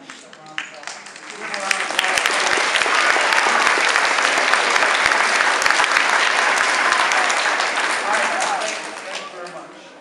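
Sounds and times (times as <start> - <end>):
crowd applauding: 0.2 - 9.7.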